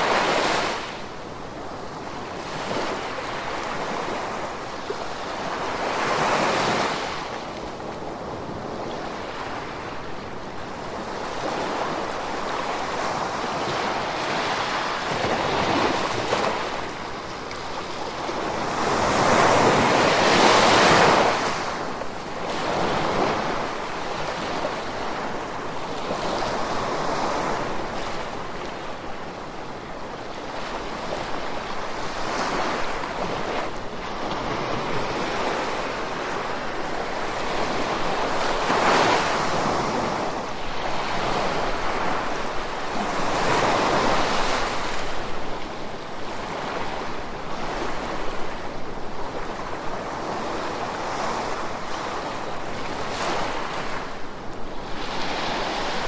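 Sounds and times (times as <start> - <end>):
ocean waves washing ashore: 0.0 - 56.0.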